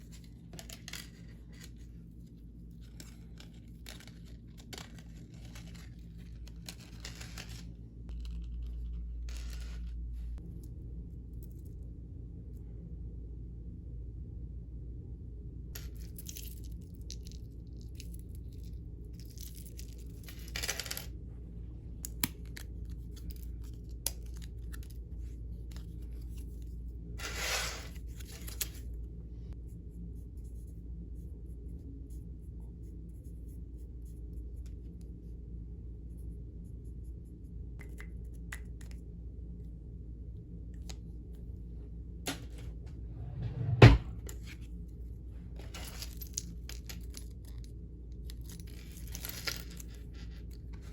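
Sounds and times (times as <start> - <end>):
faint low hum: 0.0 - 50.9.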